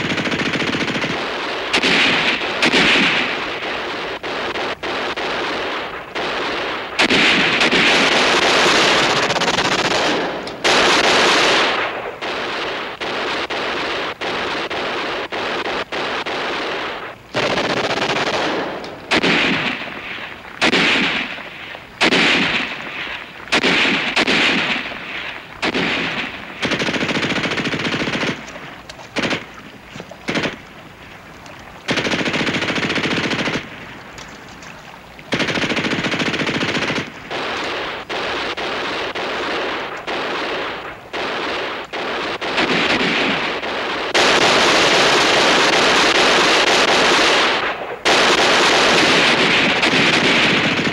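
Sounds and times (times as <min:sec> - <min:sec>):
automatic gunfire bursts: 0:00.0 - 0:50.9.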